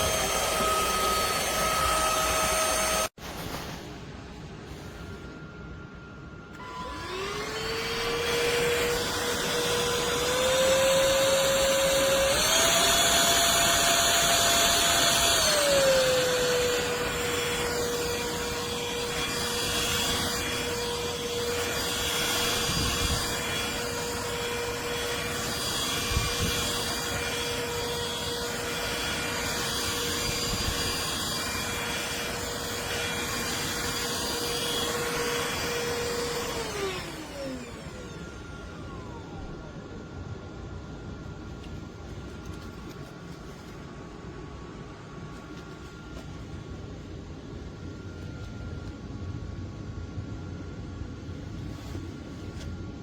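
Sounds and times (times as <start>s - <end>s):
stick vacuum motor whine: 0.0s - 3.6s, 4.8s - 49.1s.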